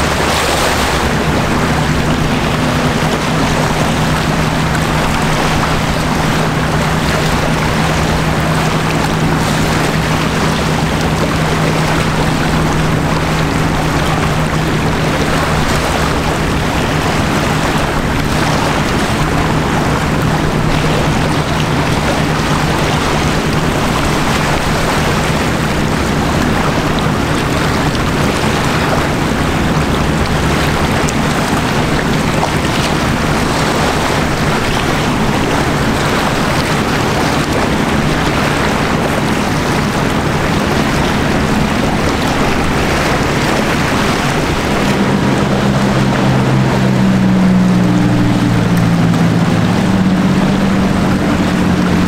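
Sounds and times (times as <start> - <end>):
ship engine hum: 0.0 - 52.0
wind and water rushing: 0.0 - 52.0.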